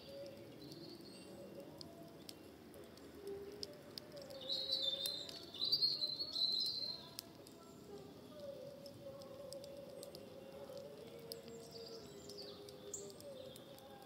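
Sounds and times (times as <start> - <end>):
campfire crackling: 0.0 - 14.0
songbird singing: 0.0 - 14.0.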